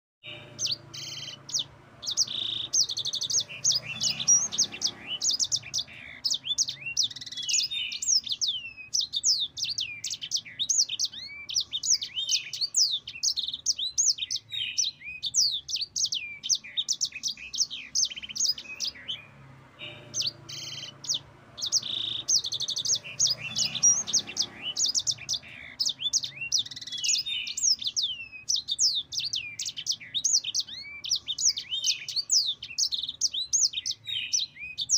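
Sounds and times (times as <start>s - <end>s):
canary singing: 0.2s - 34.9s.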